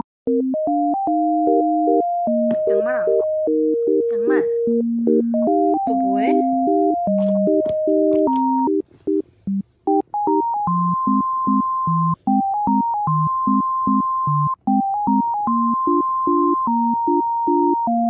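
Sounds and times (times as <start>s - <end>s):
simple synthesizer tune: 0.0s - 18.0s.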